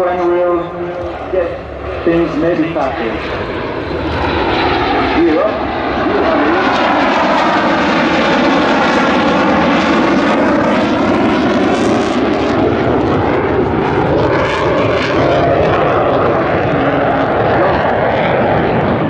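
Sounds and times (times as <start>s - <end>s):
fighter jets flying past: 0.0s - 19.0s.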